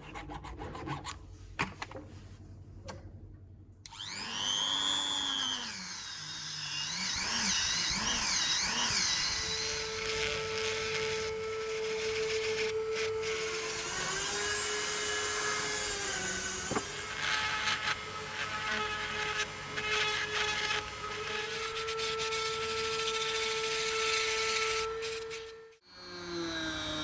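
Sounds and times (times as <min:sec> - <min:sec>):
power tool whining: 0:03.9 - 0:27.0.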